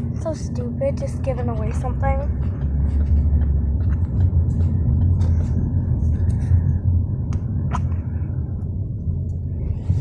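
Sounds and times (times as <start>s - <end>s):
car interior driving rumble: 0.0s - 10.0s.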